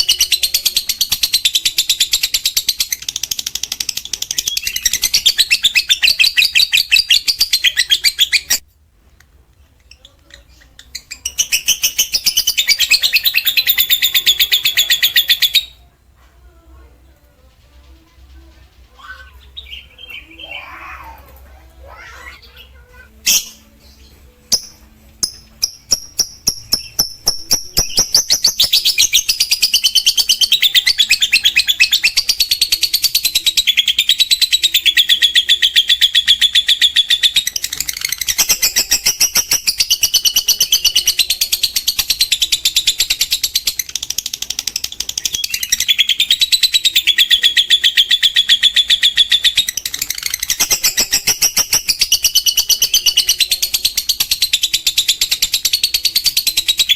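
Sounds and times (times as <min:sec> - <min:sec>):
bird high-pitched chirps and trill: 0:00.0 - 0:08.6, 0:09.8 - 0:15.9, 0:17.0 - 0:56.9.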